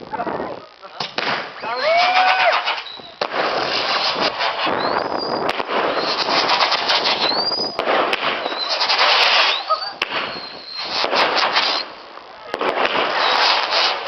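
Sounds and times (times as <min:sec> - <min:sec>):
fireworks crackling and popping: 0:00.0 - 0:14.0
rising firework whistles: 0:01.2 - 0:14.0.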